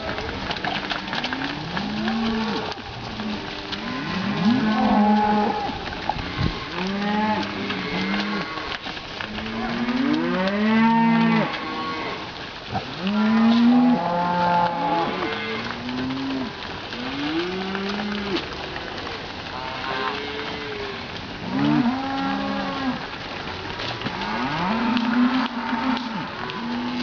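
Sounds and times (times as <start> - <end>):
cattle mooing: 0.1 - 23.2, 23.8 - 27.0.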